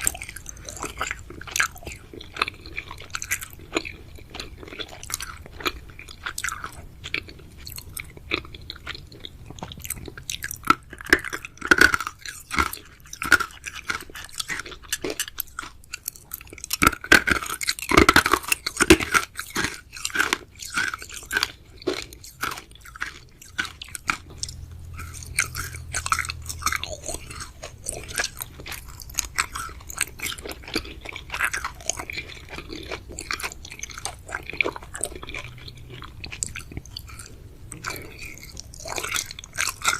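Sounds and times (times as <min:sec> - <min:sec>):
chewing chewy sweets: 0:00.0 - 0:39.9.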